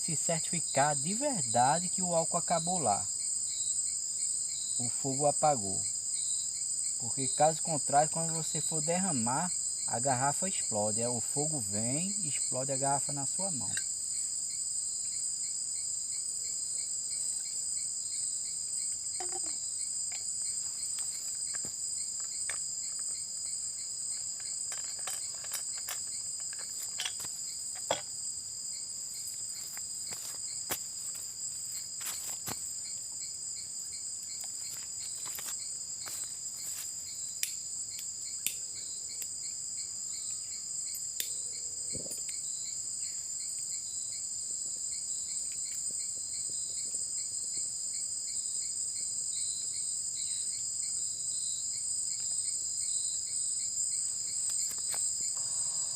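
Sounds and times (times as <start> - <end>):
insect chorus trilling: 0.0 - 55.9.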